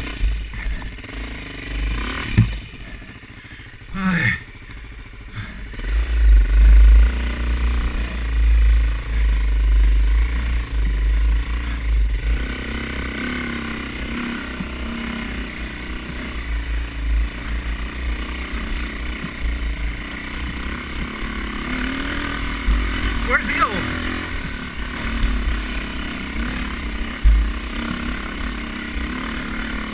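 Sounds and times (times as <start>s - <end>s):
dirt bike engine running: 0.0s - 29.9s.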